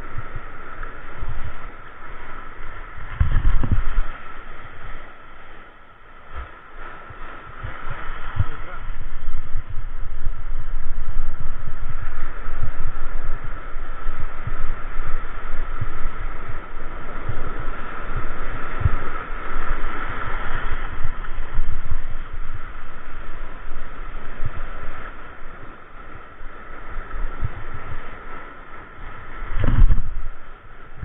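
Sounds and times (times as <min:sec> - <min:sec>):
breaking surf: 0:00.0 - 0:31.0
low thumps of gusts on mic: 0:00.0 - 0:31.0
wind buffeting microphone: 0:00.0 - 0:31.0.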